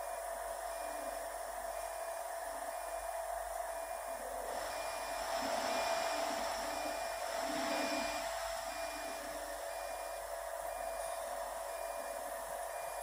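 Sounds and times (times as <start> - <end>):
machinery hum and hiss: 0.0 - 13.0.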